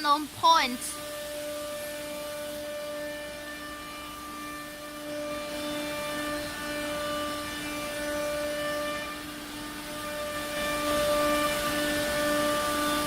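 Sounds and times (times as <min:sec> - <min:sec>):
router axis motors whining: 0:00.0 - 0:13.0.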